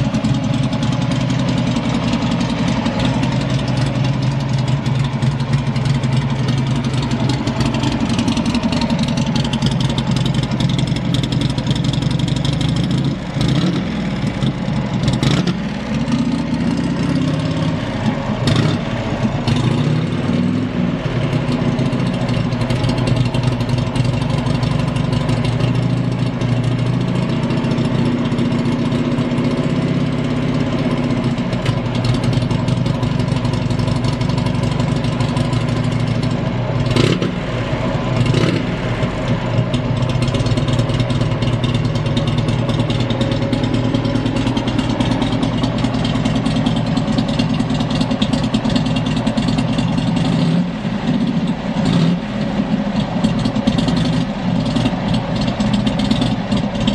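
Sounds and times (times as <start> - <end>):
motorcycle engine idling: 0.0 - 56.9.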